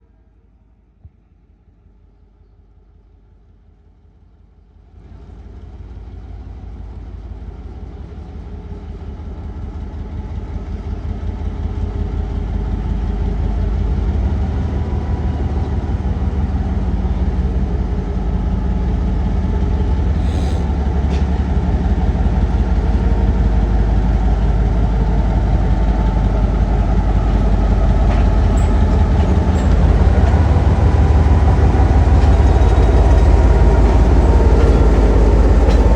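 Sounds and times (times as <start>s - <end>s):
train running on rails: 3.9s - 35.9s.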